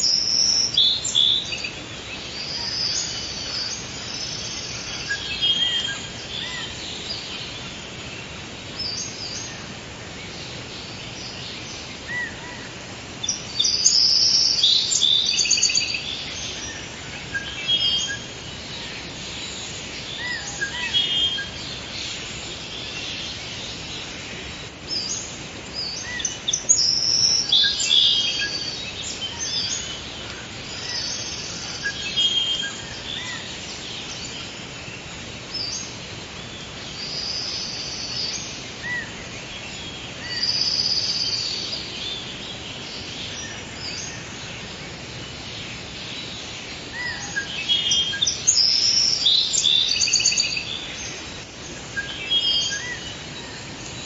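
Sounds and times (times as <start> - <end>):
birds chirping and trilling: 0.0 - 54.0
steady background hiss: 0.0 - 54.0.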